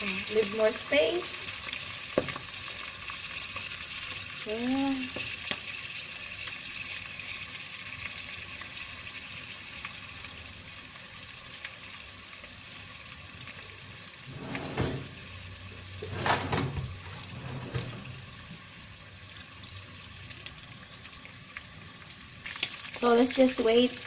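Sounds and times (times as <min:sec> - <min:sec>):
spring rolls sizzling in oil: 0:00.0 - 0:24.0.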